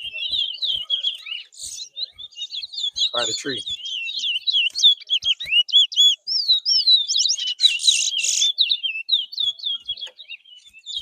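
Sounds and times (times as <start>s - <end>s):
finch singing whistled notes: 0.0s - 11.0s.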